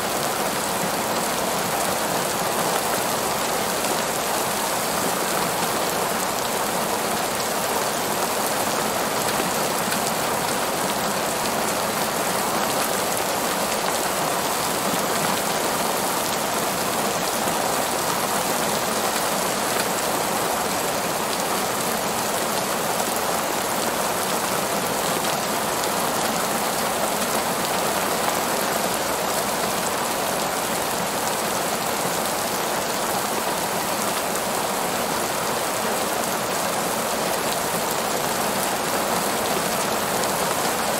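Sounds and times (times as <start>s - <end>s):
heavy rain on pavement: 0.0s - 40.9s.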